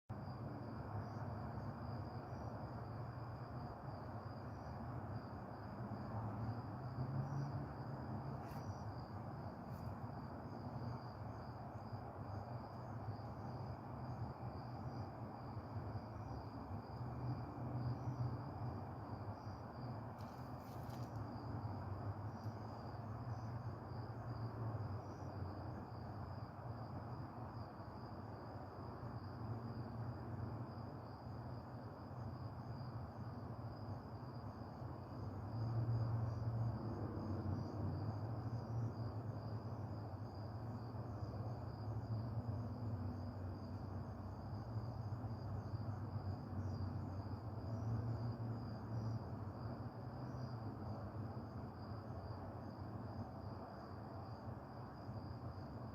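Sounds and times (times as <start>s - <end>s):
crickets chirping: 0.1s - 55.9s.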